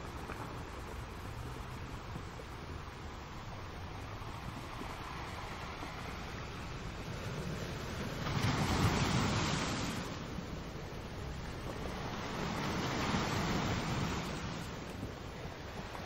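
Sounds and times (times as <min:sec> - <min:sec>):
surf washing over rocks: 0:00.0 - 0:16.0.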